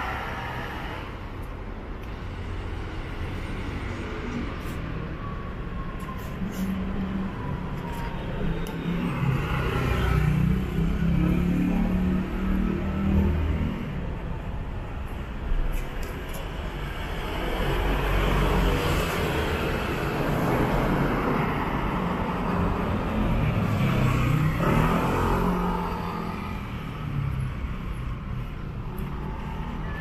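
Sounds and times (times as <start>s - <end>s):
city background noise: 0.0s - 30.0s.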